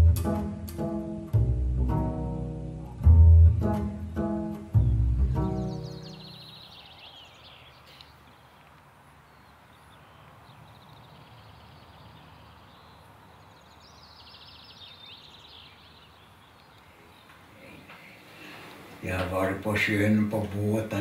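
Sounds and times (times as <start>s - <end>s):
birds chirping: 3.9s - 21.0s.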